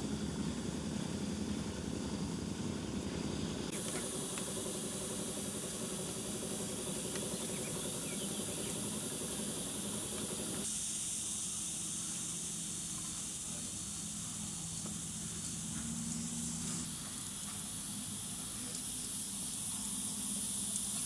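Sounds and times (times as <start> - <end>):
high-pitched outdoor hiss: 0.0 - 21.0.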